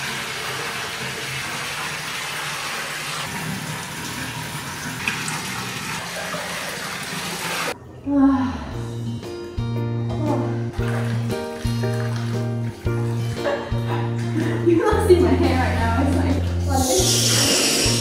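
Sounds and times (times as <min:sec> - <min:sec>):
tap water running into bathtub: 0:00.0 - 0:07.8, 0:10.7 - 0:18.0.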